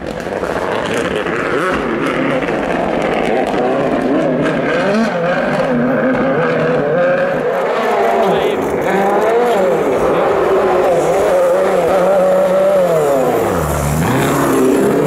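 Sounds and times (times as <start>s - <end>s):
rally car engine running hard: 0.0s - 15.0s.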